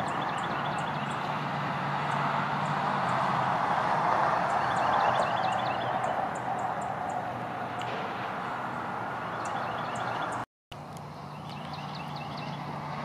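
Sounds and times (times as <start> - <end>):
songbird chirping: 0.0 - 3.3, 4.2 - 13.0.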